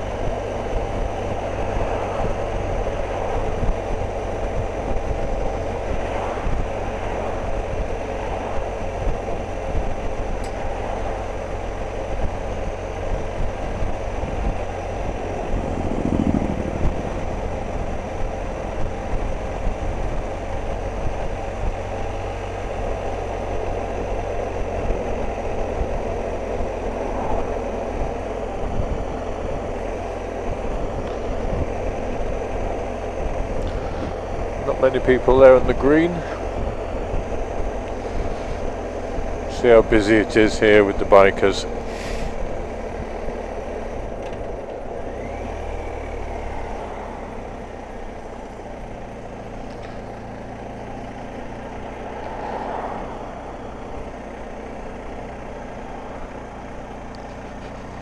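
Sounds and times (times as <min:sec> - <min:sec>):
wind rumble on microphone: 0:00.0 - 0:50.1
motorcycle engine running: 0:00.0 - 0:58.0.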